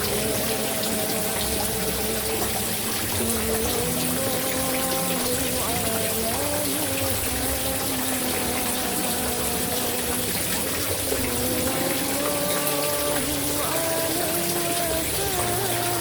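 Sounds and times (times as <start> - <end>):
person chanting long notes: 0.0 - 16.0
running water: 0.0 - 16.0.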